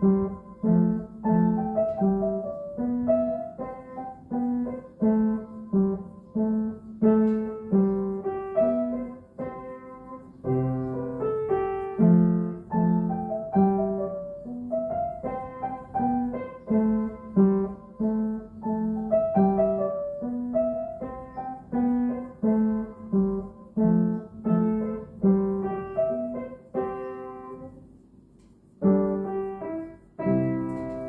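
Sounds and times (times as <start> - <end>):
solo piano playing: 0.0 - 31.0.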